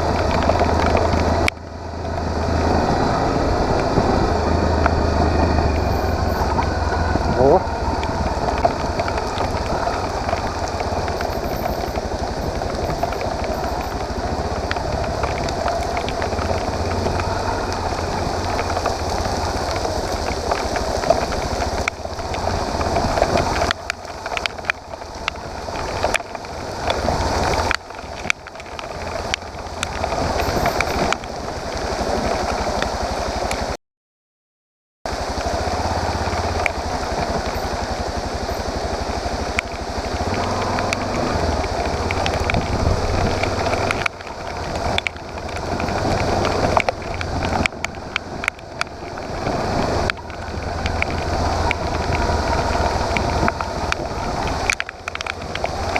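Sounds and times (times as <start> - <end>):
motorcycle engine running: 0.0 - 33.4, 35.1 - 55.9
constant rushing noise: 0.0 - 33.8, 35.1 - 55.9.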